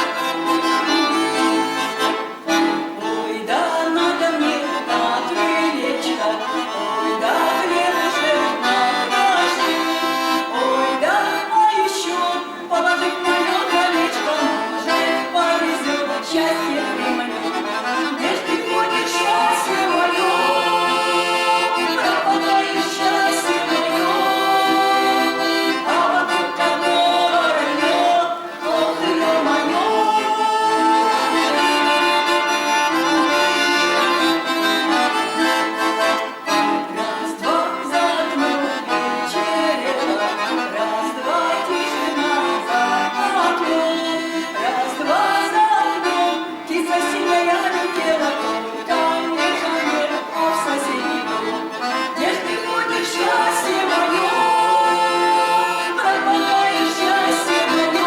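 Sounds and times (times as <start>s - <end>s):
accordion playing a tune: 0.0s - 58.0s.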